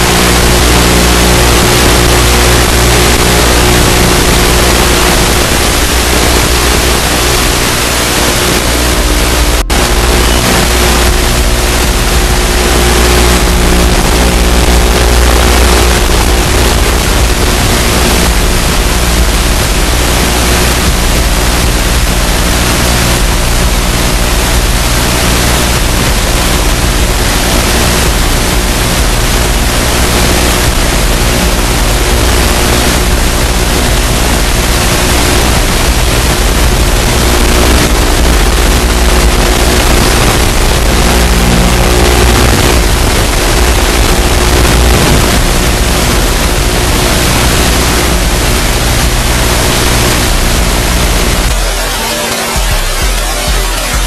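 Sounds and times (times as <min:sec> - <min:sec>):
loud static hiss: 0:00.0 - 0:54.0.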